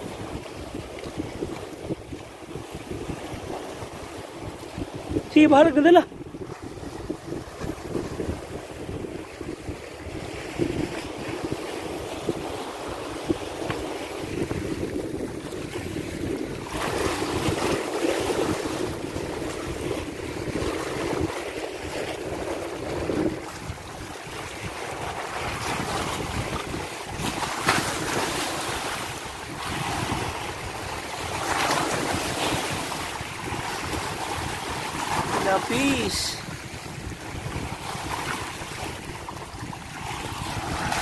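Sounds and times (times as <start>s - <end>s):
sea waves washing against rocks: 0.0s - 41.0s
wind buffeting microphone: 0.0s - 41.0s.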